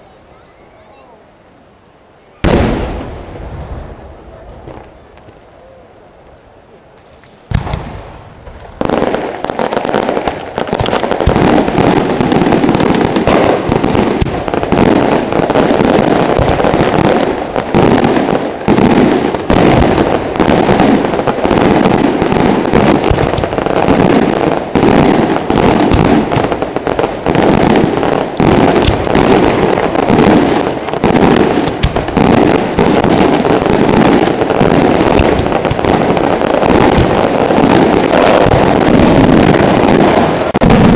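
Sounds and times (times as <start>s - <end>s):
firework bursts: 2.2s - 5.6s, 6.9s - 40.9s.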